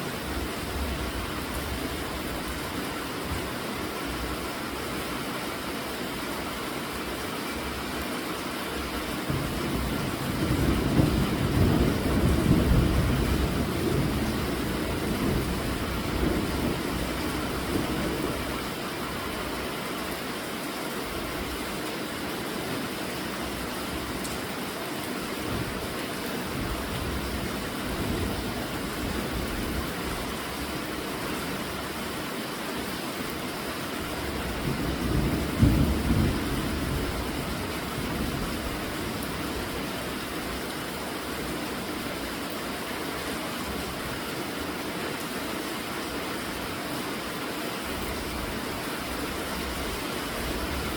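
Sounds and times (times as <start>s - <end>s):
steady rainfall: 0.0s - 50.9s.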